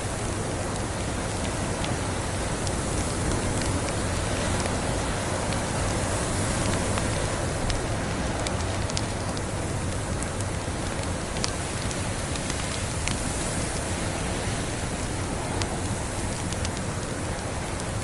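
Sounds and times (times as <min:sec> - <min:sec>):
log fire crackling: 0:00.0 - 0:18.0.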